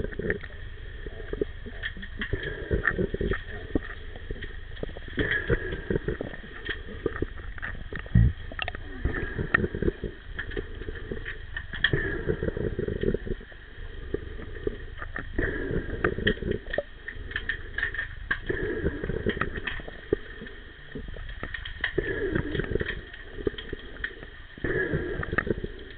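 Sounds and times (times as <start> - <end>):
muffled underwater rush: 0.0 - 25.9.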